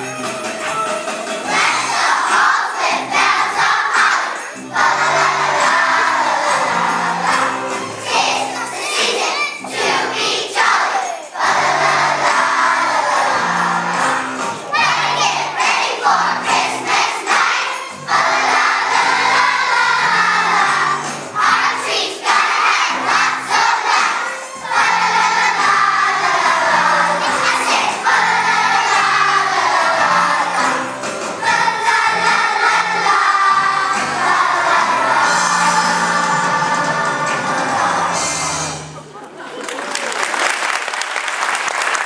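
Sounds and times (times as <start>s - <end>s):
musical accompaniment with steady beat: 0.0s - 39.2s
children singing: 1.4s - 38.7s.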